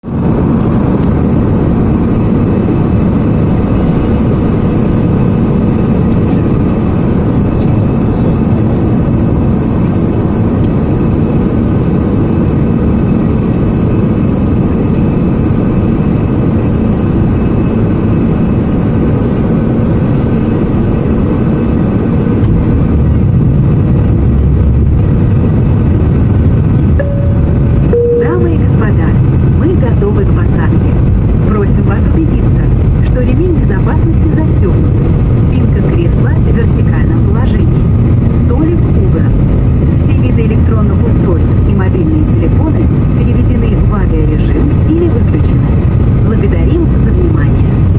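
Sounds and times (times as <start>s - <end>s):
airliner cabin engine rush: 0.0s - 47.9s.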